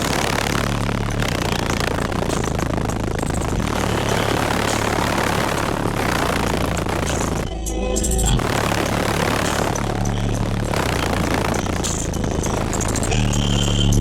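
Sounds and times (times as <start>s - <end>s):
distorted deep bass note: 0.0s - 14.0s.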